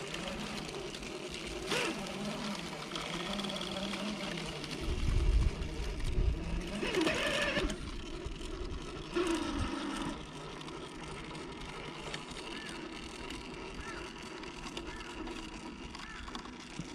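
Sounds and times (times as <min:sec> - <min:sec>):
electric motor whirring: 0:00.0 - 0:16.9.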